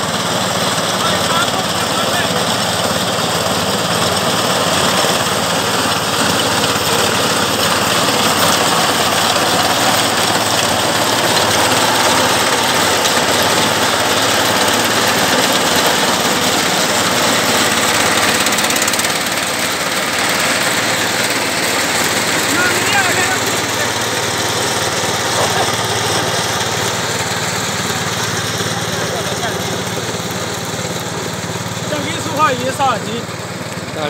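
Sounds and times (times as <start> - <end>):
mini tractor engine running: 0.0 - 34.0
cutter bar mowing grass: 0.2 - 34.0.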